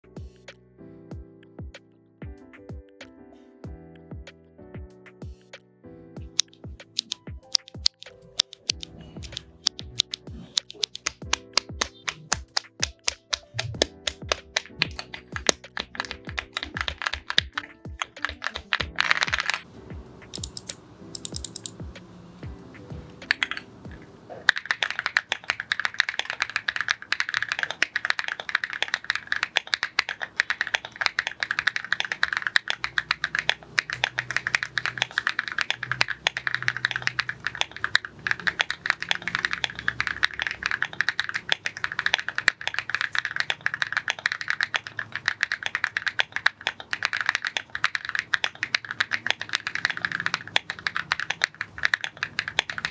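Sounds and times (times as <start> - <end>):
background music: 0.0 - 52.9
fast typing on keyboard: 6.2 - 22.0, 23.2 - 52.9.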